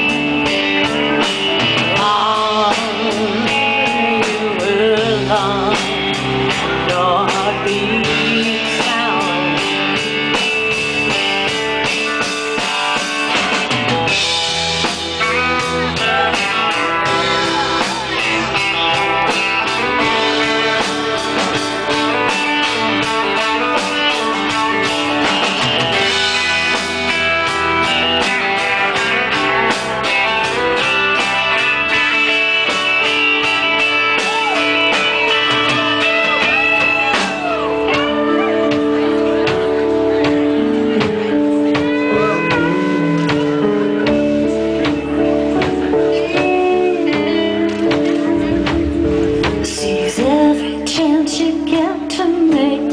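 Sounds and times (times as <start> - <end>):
electric lead guitar bending notes: 0.0 - 52.9
live rock band playing: 0.0 - 52.9.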